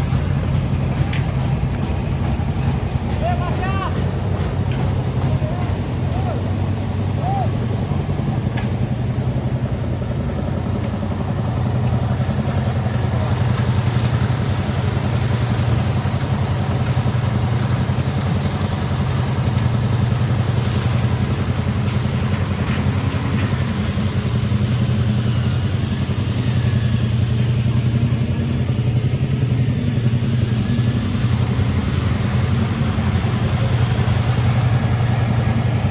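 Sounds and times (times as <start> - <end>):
engine humming steadily: 0.0 - 35.9.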